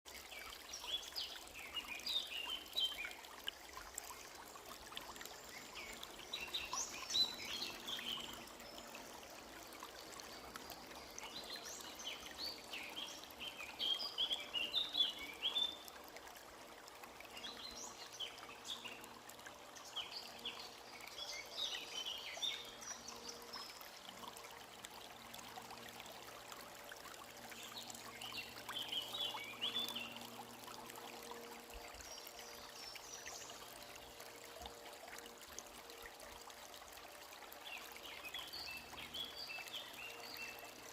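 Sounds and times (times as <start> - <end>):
stream trickling and babbling: 0.1 - 40.9
songbirds singing: 0.2 - 16.0, 17.2 - 24.4, 27.4 - 34.8, 37.6 - 40.9.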